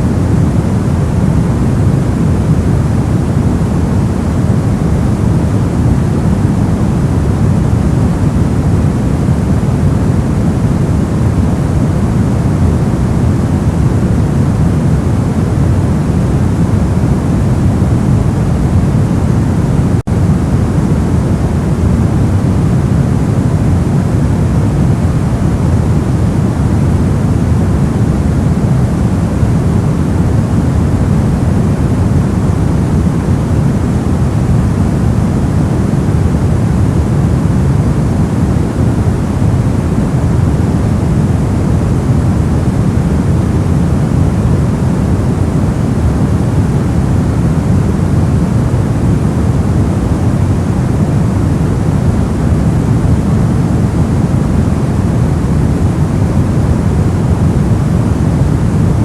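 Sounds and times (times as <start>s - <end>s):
electronic white noise hiss: 0.0s - 59.0s.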